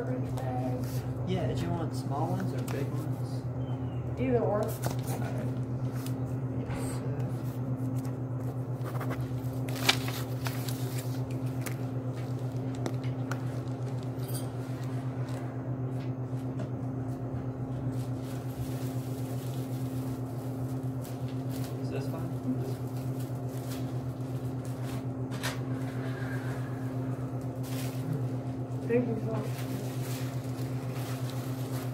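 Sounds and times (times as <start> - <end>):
low hum: 0.0 - 31.9.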